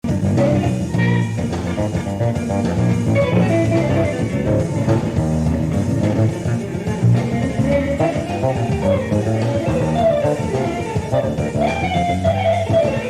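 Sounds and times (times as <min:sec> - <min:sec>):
electric bass guitar solo: 0:00.0 - 0:13.0.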